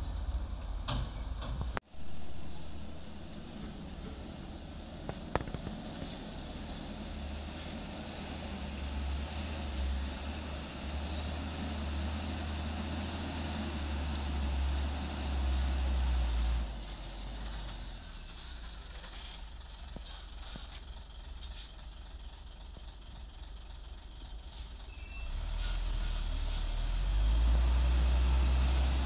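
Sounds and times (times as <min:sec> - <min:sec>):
dump truck diesel engine rumble: 0:00.0 - 0:29.0.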